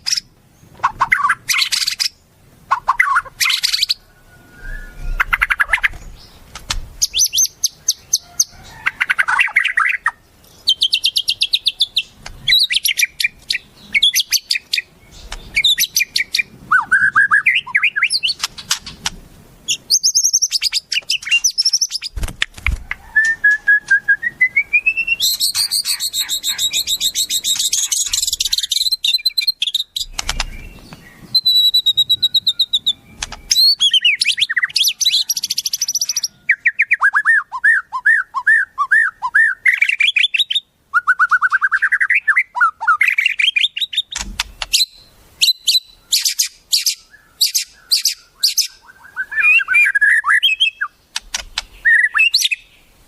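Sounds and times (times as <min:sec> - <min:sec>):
songbird song: 0:00.0 - 0:53.0.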